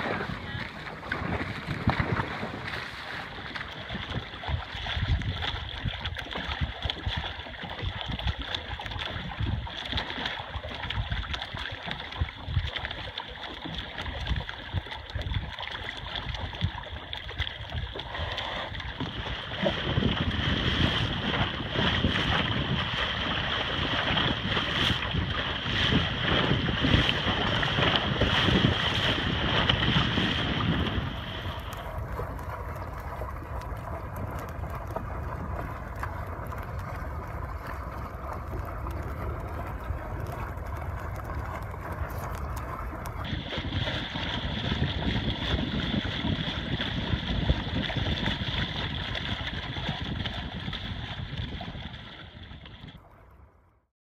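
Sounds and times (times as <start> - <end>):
wind buffeting microphone: 0.0 - 12.7, 14.0 - 53.0
water rushing past boat: 0.0 - 53.8.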